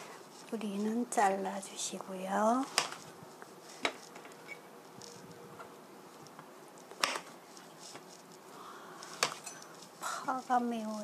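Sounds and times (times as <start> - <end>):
faint handling sounds: 0.0 - 11.0.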